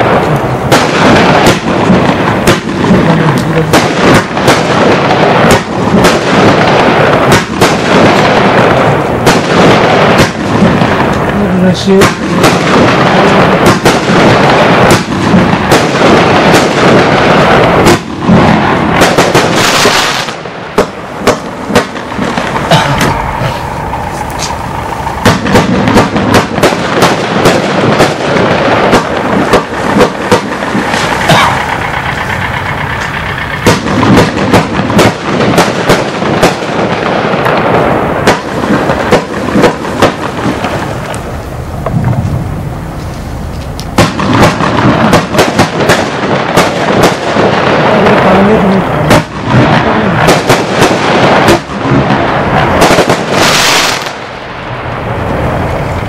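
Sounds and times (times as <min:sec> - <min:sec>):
crackle and hiss of bursting stars: 0:00.0 - 0:56.0
fireworks bangs: 0:00.0 - 0:56.0.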